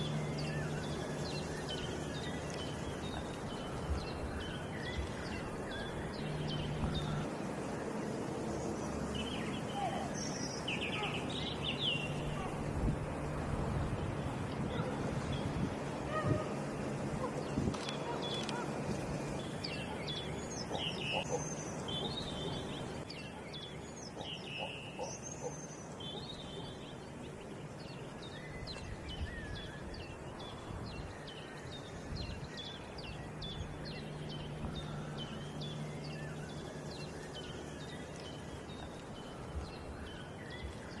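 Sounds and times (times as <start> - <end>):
outdoor background noise: 0.0 - 41.0
small birds calling: 0.0 - 41.0.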